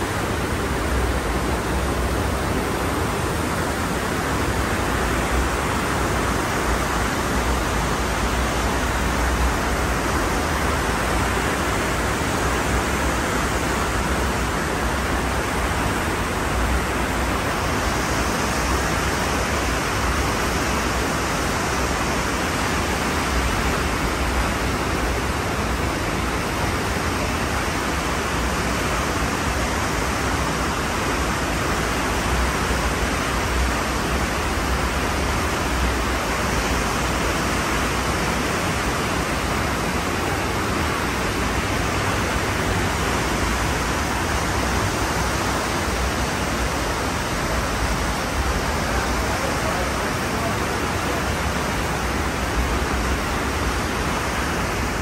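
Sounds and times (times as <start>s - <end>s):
ocean surf rushing: 0.0s - 55.0s.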